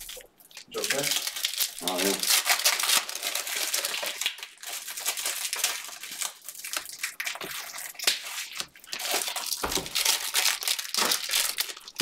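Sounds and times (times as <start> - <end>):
wrappers and cards crinkling: 0.0 - 12.0.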